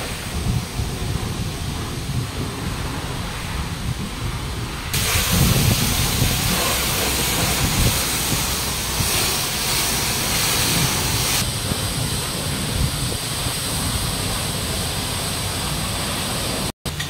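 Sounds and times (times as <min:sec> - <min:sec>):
pressure washer spraying water: 0:00.0 - 0:17.0.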